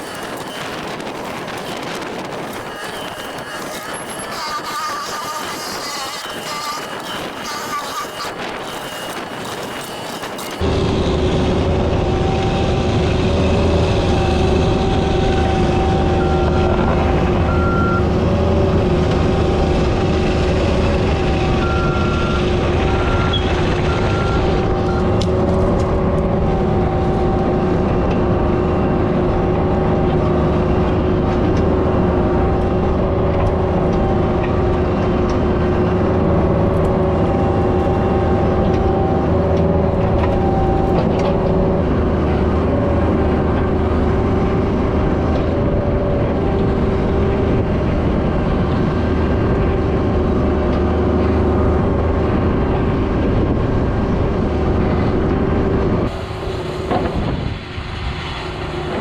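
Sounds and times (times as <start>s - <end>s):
diesel engine running: 6.4s - 59.0s.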